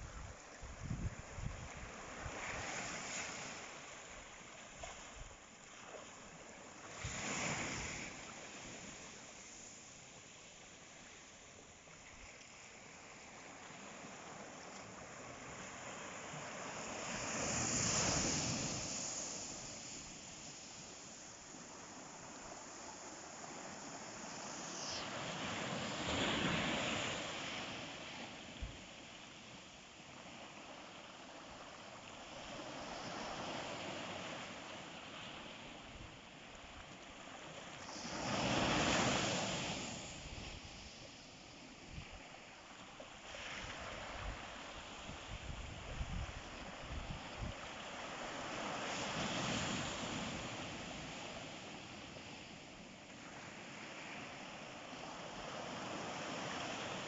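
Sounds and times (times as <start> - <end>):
steady hiss of surf: 0.0 - 57.0.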